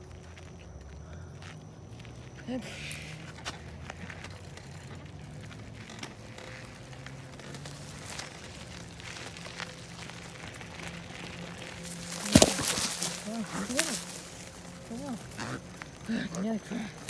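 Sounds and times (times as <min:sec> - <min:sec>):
bicycle rattling on dirt trail: 0:00.0 - 0:17.0.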